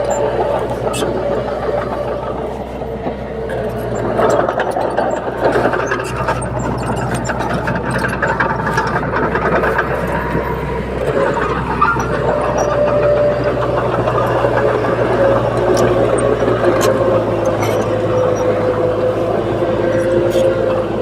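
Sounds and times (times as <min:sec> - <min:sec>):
bulldozer diesel engine running: 0:00.0 - 0:21.0
sharp metallic clicks: 0:03.5 - 0:20.6.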